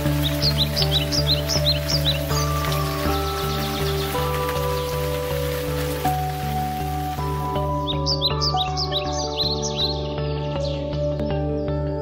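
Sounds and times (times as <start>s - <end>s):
bird chirps: 0.0s - 5.6s, 7.6s - 11.7s
held melody over pulsing bass: 0.0s - 12.0s.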